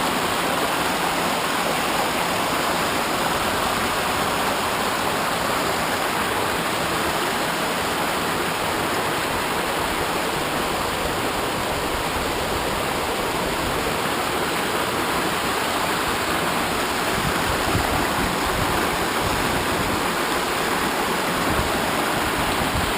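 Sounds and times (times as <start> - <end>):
rushing stream and waterfall: 0.0 - 22.9.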